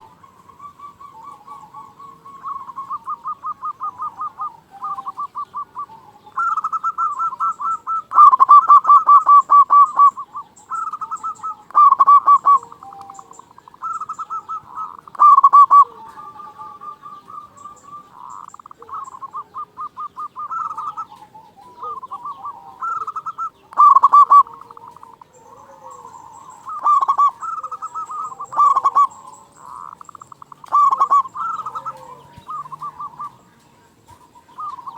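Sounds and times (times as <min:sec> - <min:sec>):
doves cooing: 0:00.0 - 0:34.9
small birds chirping: 0:00.0 - 0:34.9.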